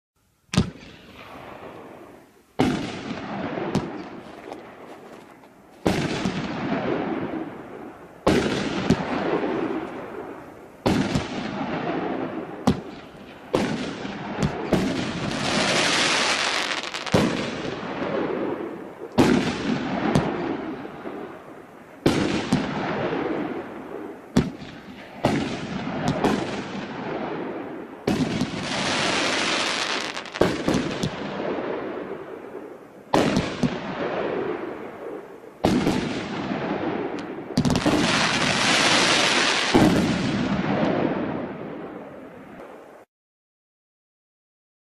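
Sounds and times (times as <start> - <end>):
firework bangs: 0.5 - 4.9, 5.8 - 42.0
hissing of burning firework stars: 0.5 - 41.0.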